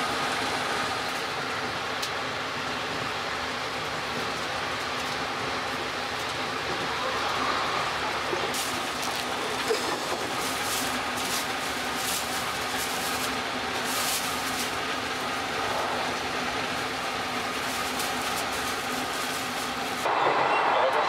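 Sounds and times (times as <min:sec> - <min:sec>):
train running noise inside carriage: 0:00.0 - 0:21.0.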